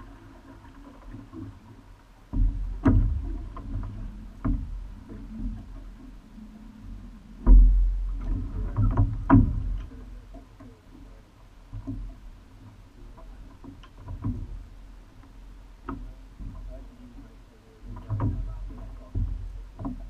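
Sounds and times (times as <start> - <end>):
low rumble of rowing strokes: 0.0 - 20.0
oars clicking in oarlocks: 0.0 - 20.0.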